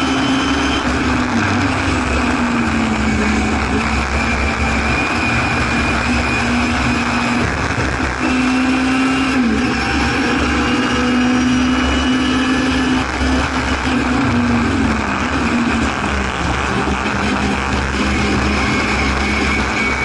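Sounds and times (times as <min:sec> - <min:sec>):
race car engine running hard: 0:00.0 - 0:20.0
road and wind rush: 0:00.0 - 0:20.0.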